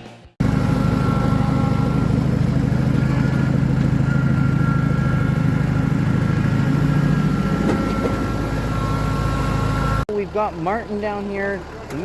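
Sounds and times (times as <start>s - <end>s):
vehicle engine running: 0.4s - 12.0s.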